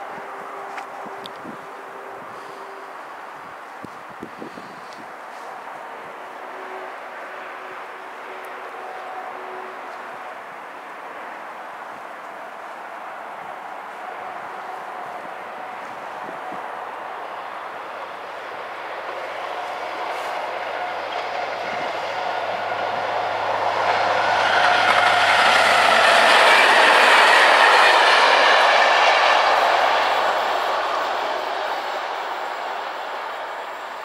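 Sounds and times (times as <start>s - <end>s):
freight train passing: 0.0s - 34.0s.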